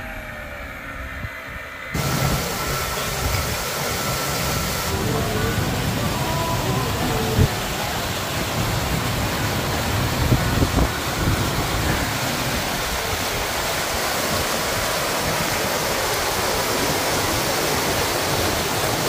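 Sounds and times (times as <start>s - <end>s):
low buffeting: 0.0s - 19.0s
wind: 0.0s - 19.0s
rush of water: 2.0s - 19.0s.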